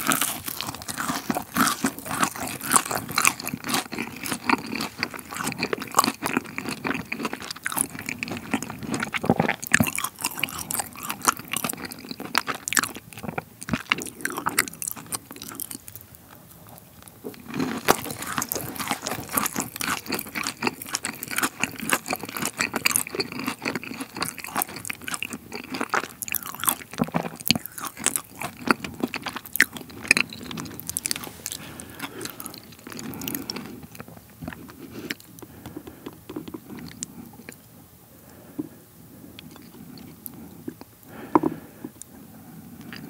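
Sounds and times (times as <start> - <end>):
crunchy chewing: 0.0 - 37.6, 39.3 - 43.0.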